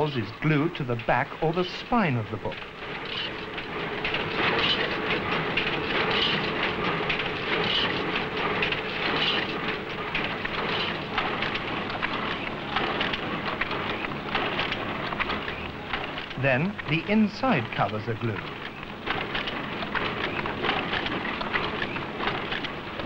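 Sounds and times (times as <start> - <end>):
bookbinding machine clattering: 0.0 - 23.0
steady machine hum: 0.0 - 23.0.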